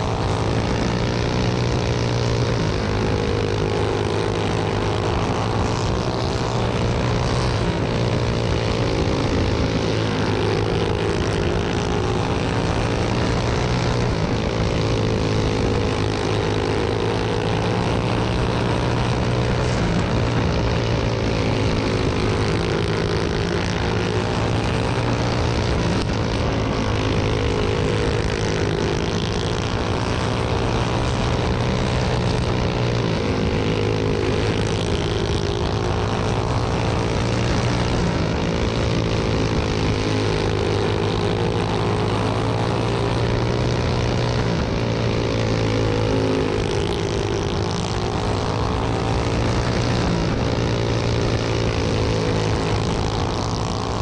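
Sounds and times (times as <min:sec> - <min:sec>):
go-kart engine racing: 0:00.0 - 0:54.0.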